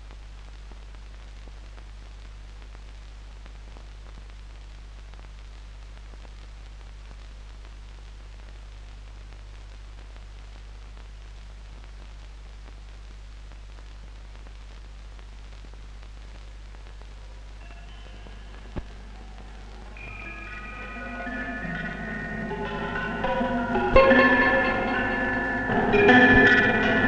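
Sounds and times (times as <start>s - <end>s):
film soundtrack hiss and crackle: 0.0s - 27.0s
low steady hum: 0.0s - 27.0s.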